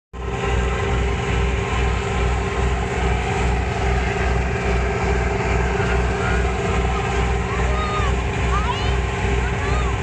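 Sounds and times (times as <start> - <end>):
ship diesel engine throbbing: 0.2 - 10.0.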